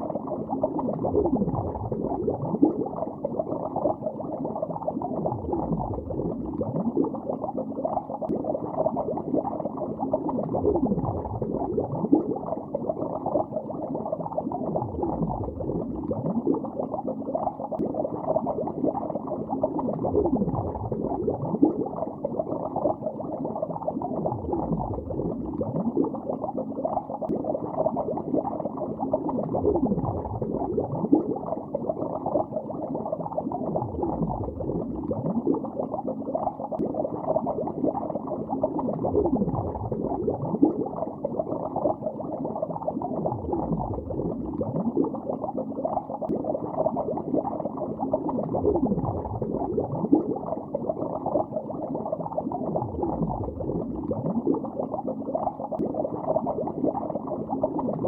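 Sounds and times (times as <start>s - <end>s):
underwater bubbling: 0.0s - 58.0s.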